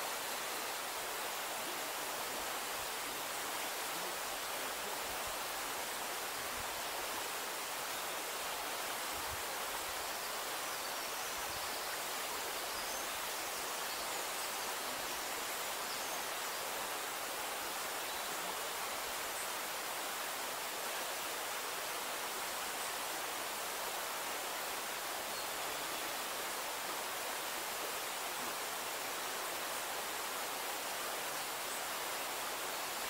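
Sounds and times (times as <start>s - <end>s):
soft forest hiss: 0.0s - 33.0s.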